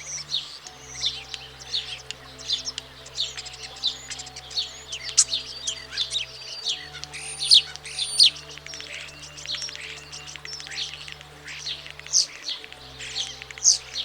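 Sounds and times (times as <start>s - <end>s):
starling singing: 0.0s - 14.0s.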